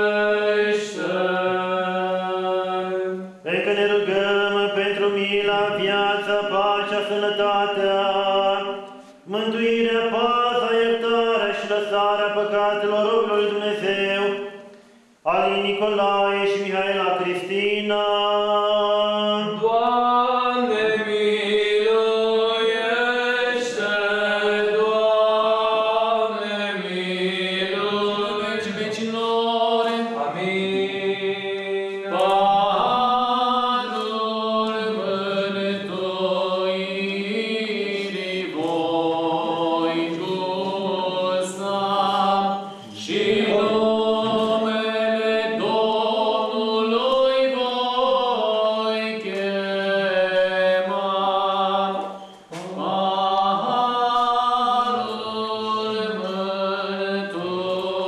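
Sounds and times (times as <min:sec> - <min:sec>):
church chant melody: 0:00.0 - 0:58.0.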